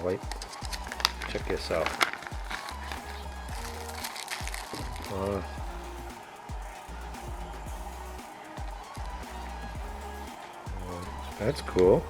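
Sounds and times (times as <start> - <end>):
steady bass line: 0.0 - 12.0.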